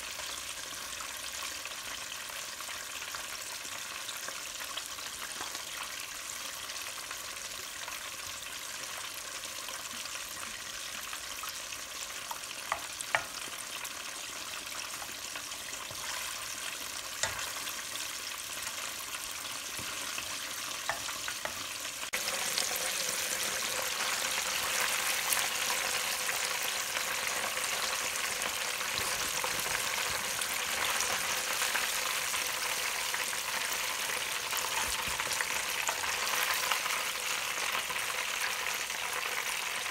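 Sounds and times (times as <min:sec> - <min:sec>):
chicken deep-frying in oil: 0:00.0 - 0:39.9
sauce hissing in pan: 0:04.9 - 0:39.9.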